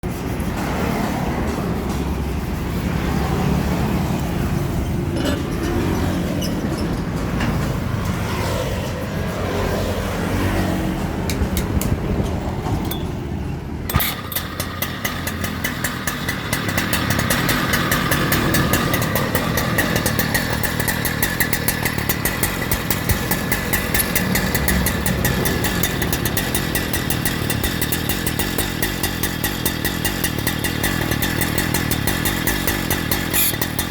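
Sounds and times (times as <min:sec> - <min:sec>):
two-stroke saw engine running: 0:00.0 - 0:33.9.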